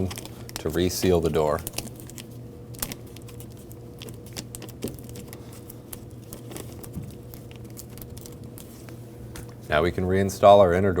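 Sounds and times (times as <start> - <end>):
thin plastic crinkling: 0.0 - 9.9.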